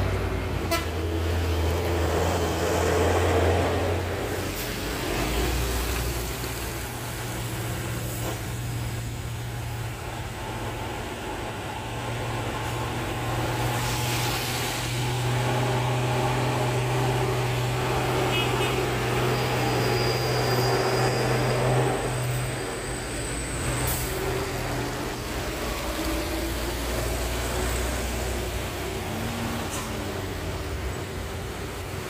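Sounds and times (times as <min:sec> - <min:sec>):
diesel trucks passing: 0:00.0 - 0:32.0
tyre noise on wet road: 0:00.0 - 0:32.0.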